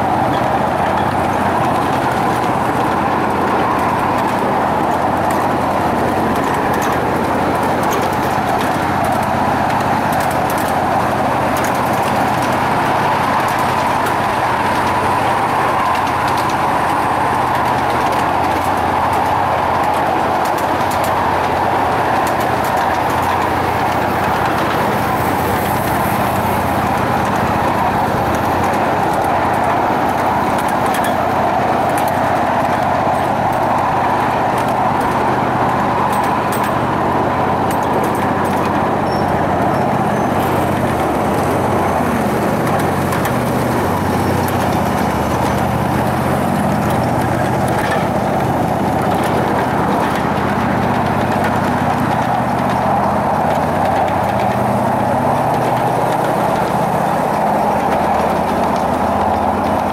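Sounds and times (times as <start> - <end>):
locomotive hum: 0.0 - 59.9
train wheels rumbling on rail: 0.0 - 59.9.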